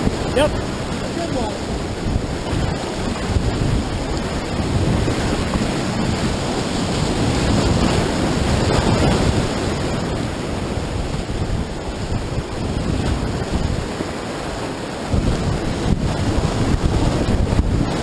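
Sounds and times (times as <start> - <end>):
whitewater roaring: 0.0 - 18.0.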